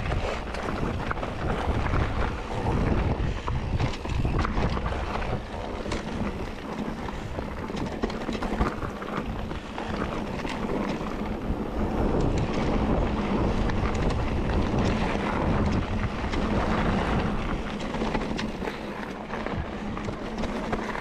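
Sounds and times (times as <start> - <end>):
mountain bike rumble on trail: 0.0 - 21.0
wind buffeting microphone: 0.0 - 21.0.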